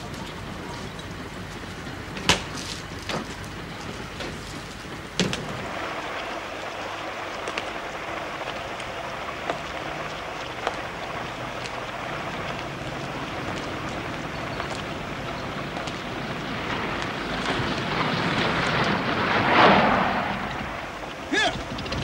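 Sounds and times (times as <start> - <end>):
steady rain falling: 0.0 - 22.0
vehicle approaching on wet road: 0.0 - 22.0.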